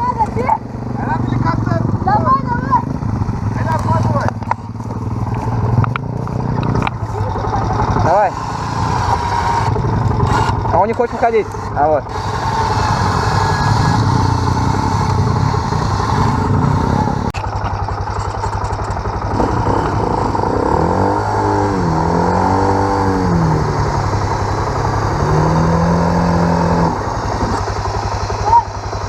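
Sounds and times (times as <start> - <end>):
engine running steadily: 0.0 - 29.0
quad bike engine revving: 0.0 - 29.0.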